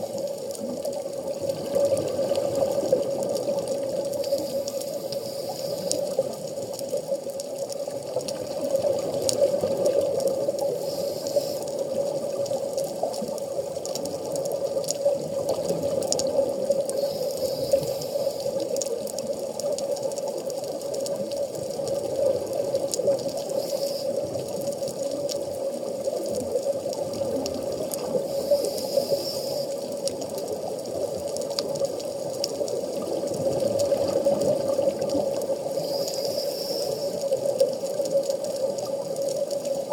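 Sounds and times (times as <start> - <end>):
faint clicks: 0.0 - 39.9
muffled underwater water noise: 0.0 - 39.9.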